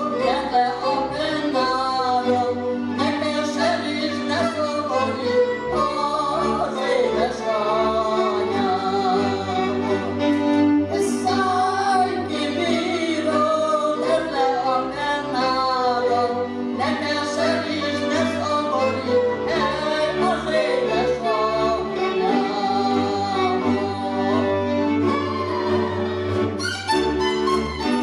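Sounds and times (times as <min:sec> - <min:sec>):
elderly woman singing: 0:00.0 - 0:09.8, 0:10.9 - 0:24.7
string band of fiddles and bass: 0:00.0 - 0:28.0.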